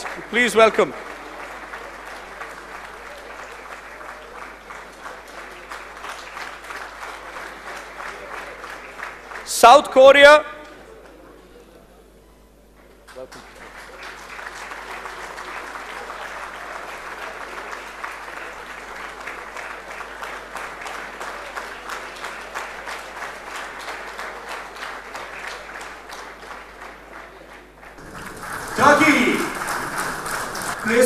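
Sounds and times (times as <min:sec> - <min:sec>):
audience applauding: 0:00.0 - 0:10.0, 0:12.8 - 0:31.0.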